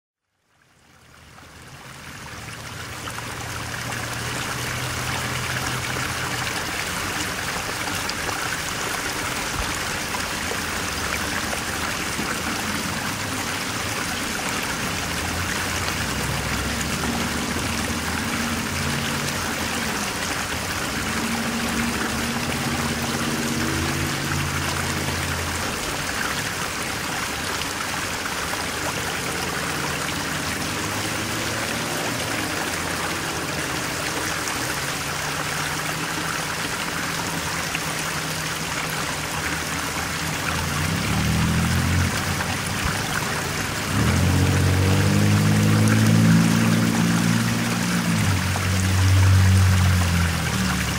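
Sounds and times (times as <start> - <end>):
trickling water: 0.2 - 50.9.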